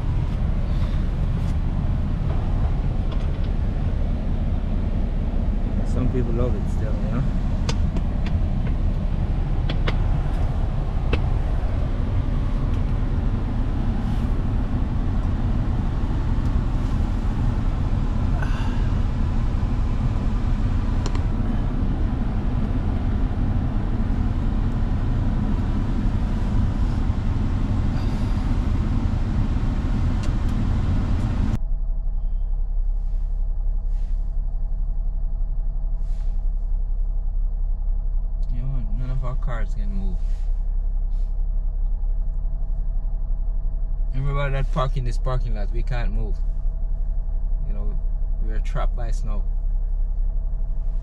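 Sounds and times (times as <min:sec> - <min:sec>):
low vehicle rumble: 0:00.0 - 0:51.0.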